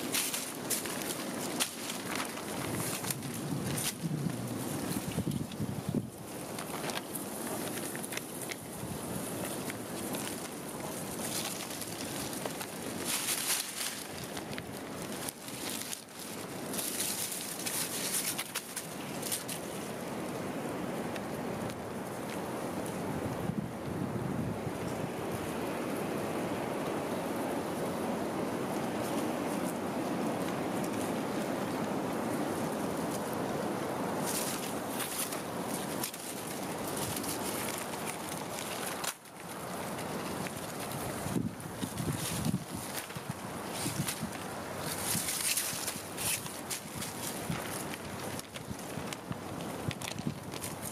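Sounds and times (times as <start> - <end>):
wind rushing over microphone: 0.0 - 18.4, 19.0 - 50.9
cord rustling: 0.0 - 20.1, 28.9 - 50.9
dry leaves crackling: 0.0 - 24.0, 24.7 - 50.9
steady outdoor hiss: 0.0 - 50.9.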